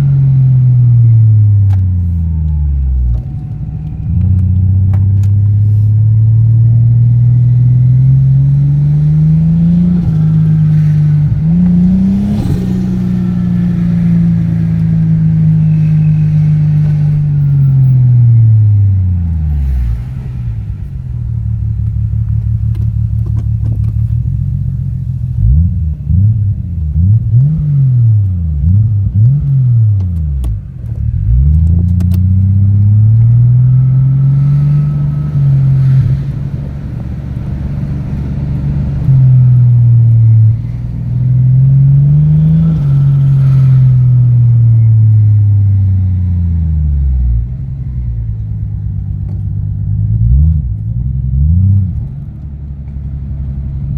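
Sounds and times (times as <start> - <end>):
turbo car engine revving: 0.0 - 53.9.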